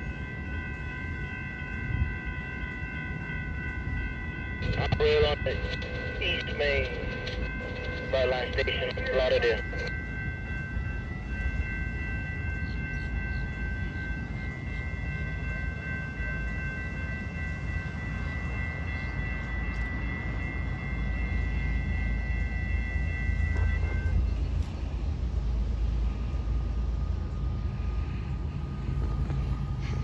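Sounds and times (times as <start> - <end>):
distant train rumble: 0.0 - 30.0.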